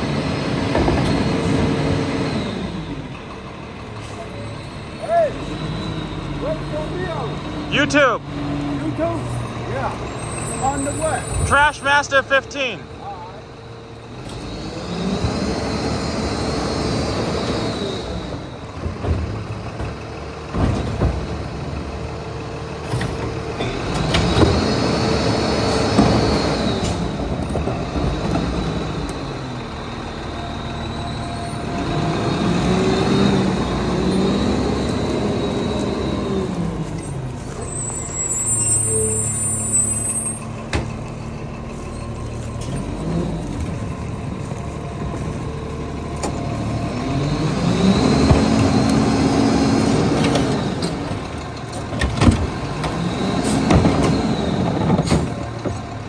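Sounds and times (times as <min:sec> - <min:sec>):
garbage truck engine revving: 0:00.0 - 0:56.0.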